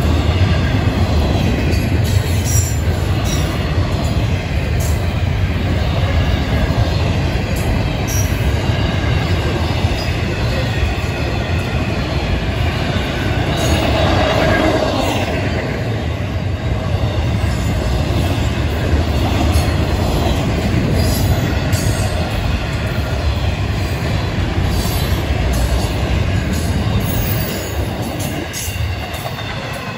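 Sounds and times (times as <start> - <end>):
wheels clicking on rails: 0.0 - 15.0, 17.1 - 29.9
freight train rumbling past: 0.0 - 29.9.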